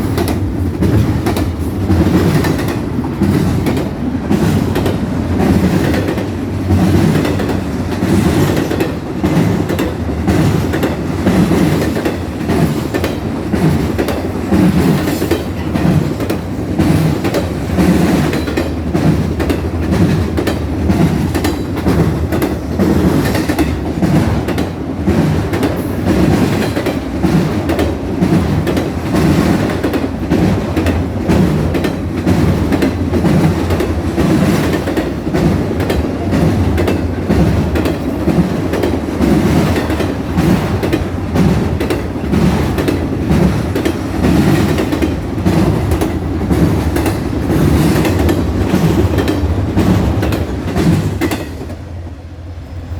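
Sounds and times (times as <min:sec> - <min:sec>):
wheels clattering over rail joints: 0:00.0 - 0:51.8
train rumbling past: 0:00.0 - 0:52.9.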